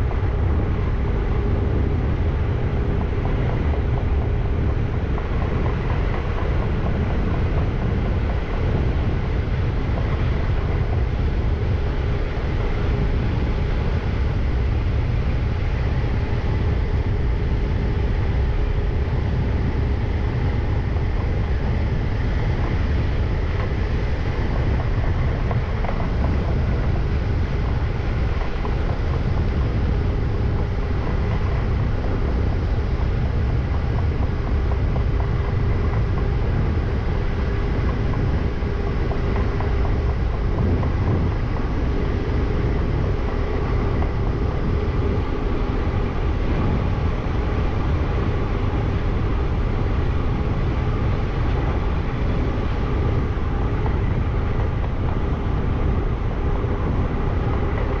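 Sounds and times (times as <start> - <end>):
faint steady whine: 0.0 - 58.0
train wheels rumbling on rail: 0.0 - 58.0.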